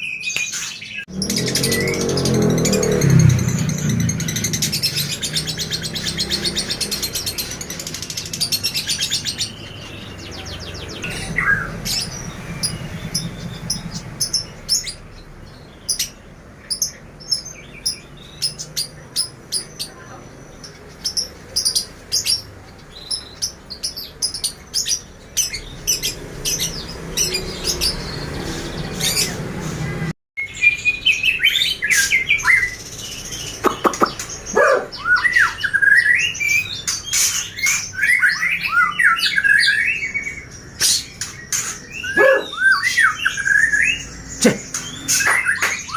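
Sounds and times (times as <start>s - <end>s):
bird trill: 0.0s - 45.9s
bird warbling song: 0.0s - 45.9s
songbirds chirping: 0.0s - 45.9s.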